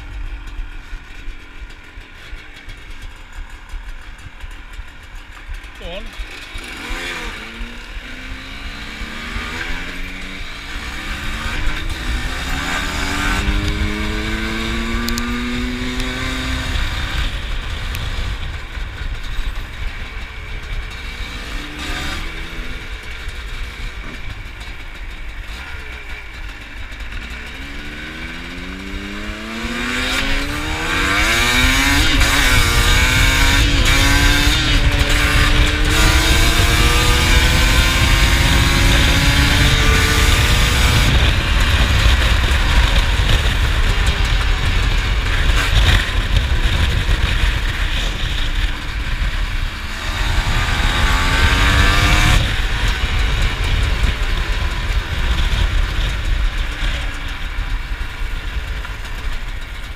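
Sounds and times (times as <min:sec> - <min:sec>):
two-stroke dirt bike accelerating: 0:00.0 - 0:59.9.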